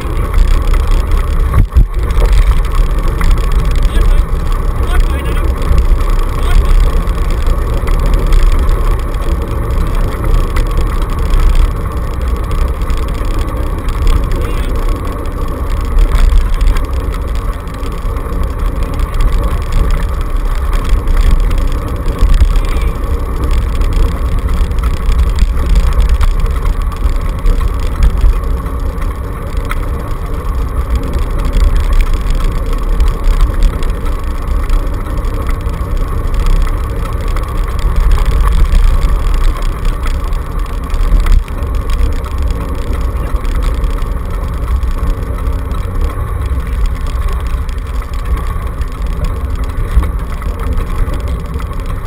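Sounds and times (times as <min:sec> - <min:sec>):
rumble of tyres on dirt trail: 0:00.0 - 0:52.0
vibrating rig: 0:00.0 - 0:52.0.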